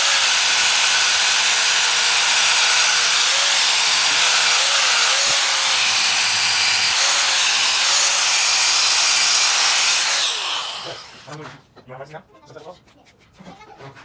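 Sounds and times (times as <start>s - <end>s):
electric tool abrading metal: 0.0s - 11.3s.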